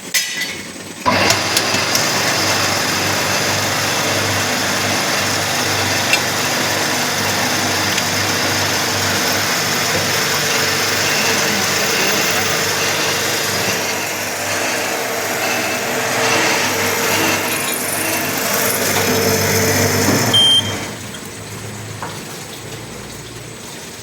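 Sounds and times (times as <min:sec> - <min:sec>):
drilling and tapping machine running: 0:01.0 - 0:21.2.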